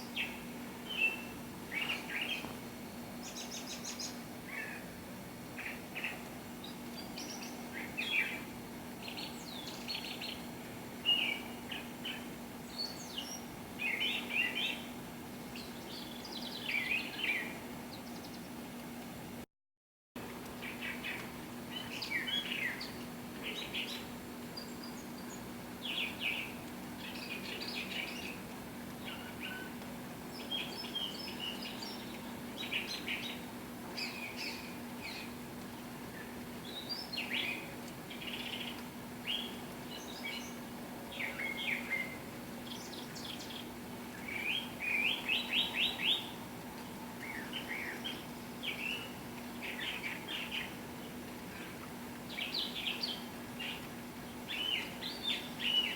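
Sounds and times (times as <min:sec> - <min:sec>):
small birds chirping: 0:00.0 - 0:04.9, 0:05.6 - 0:14.9, 0:15.5 - 0:18.6, 0:20.5 - 0:55.9.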